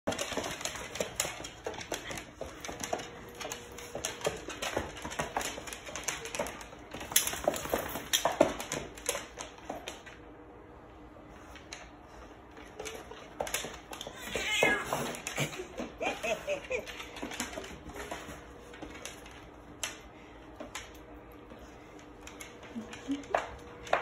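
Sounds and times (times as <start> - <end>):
dog claws clicking on wood floor: 0.1 - 10.2, 11.4 - 24.0.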